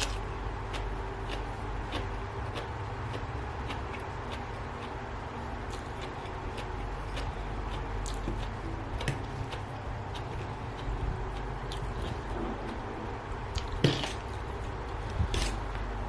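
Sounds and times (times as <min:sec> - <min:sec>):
low steady hum: 0:00.0 - 0:16.0
person chewing food: 0:00.0 - 0:16.0.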